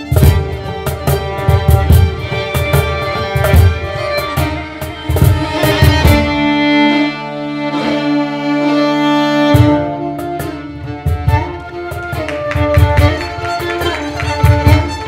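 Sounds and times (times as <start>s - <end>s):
cajon beat: 0.0s - 7.2s, 9.5s - 15.0s
string ensemble playing: 0.0s - 15.0s.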